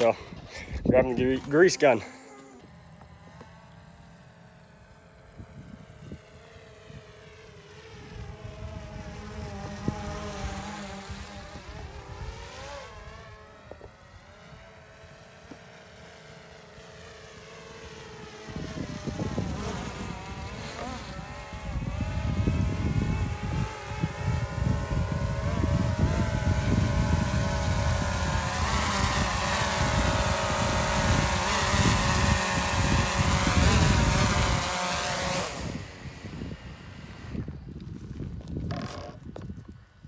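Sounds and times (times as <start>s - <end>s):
quadcopter drone buzzing: 0.0s - 40.0s.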